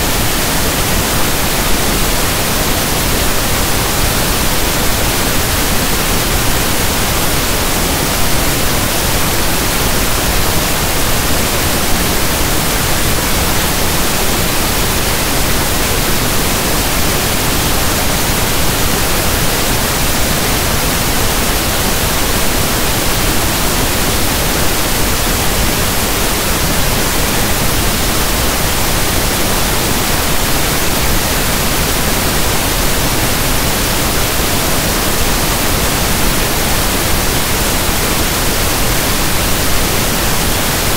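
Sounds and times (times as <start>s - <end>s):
steady pink noise static: 0.0s - 40.9s.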